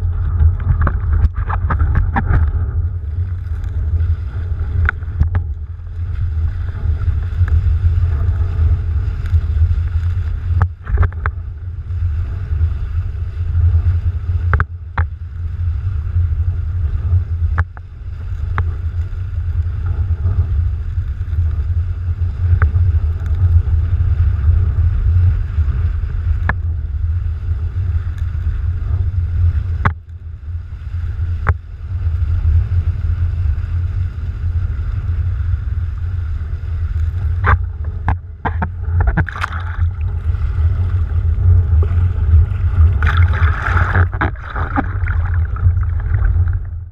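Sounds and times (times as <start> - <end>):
water rushing under board: 0.0 - 29.9, 30.6 - 46.9
wind buffeting microphone: 0.0 - 46.9.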